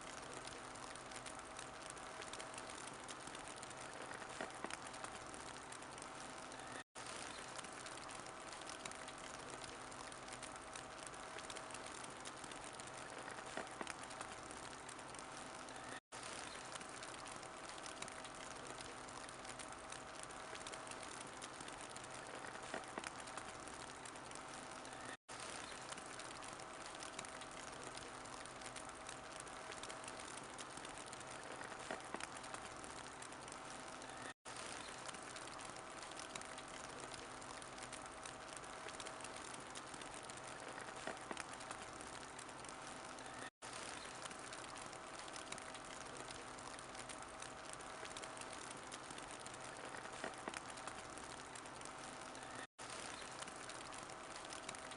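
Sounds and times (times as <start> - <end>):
sharp pops of fire: 0.0 - 54.9
wood fire crackling: 0.0 - 54.9.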